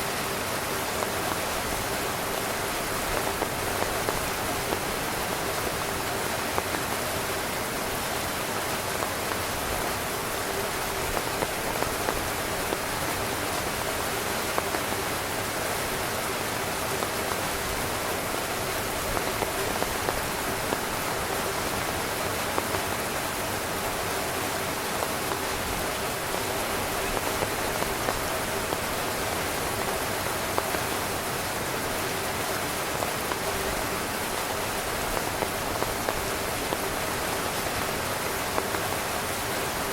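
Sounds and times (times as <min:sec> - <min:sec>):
rain falling on a tent: 0:00.0 - 0:39.9
raindrop taps: 0:00.1 - 0:39.8.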